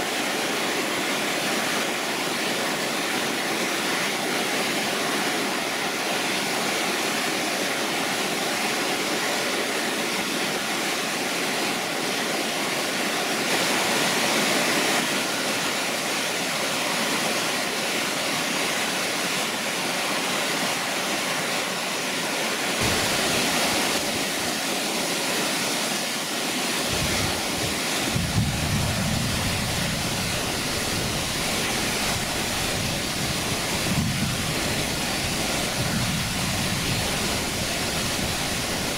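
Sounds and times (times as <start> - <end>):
creek and waterfall rushing: 0.0 - 38.9.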